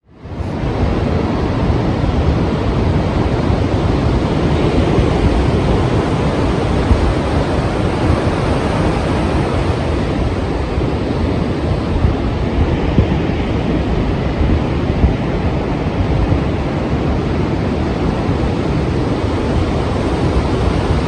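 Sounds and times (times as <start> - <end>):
sea waves breaking: 0.2 - 21.0.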